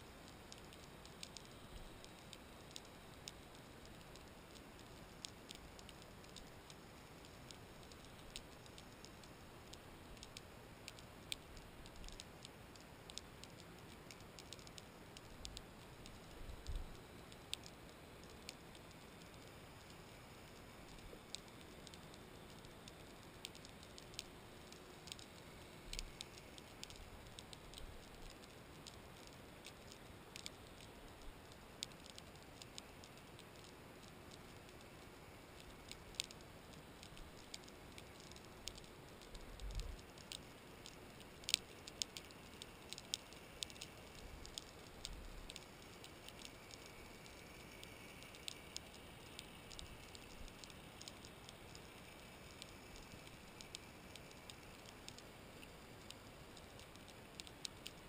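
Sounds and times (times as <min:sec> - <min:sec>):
faint steady hiss: 0:00.0 - 0:58.0.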